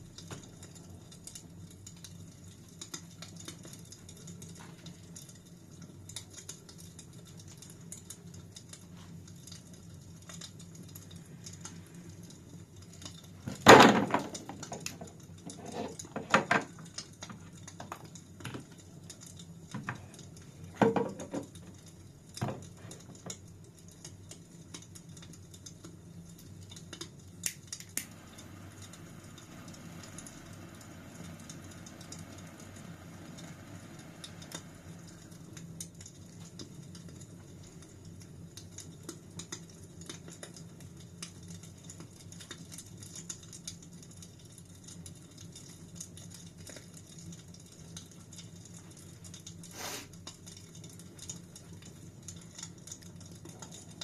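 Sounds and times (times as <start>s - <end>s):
fire pops: 0.0s - 54.0s
wood fire crackling: 0.0s - 54.0s.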